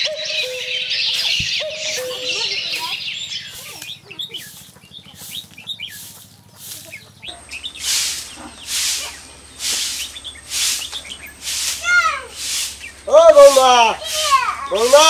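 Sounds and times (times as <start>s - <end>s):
birds chirping: 0.0s - 15.0s
broom sweeping earth: 0.3s - 15.0s.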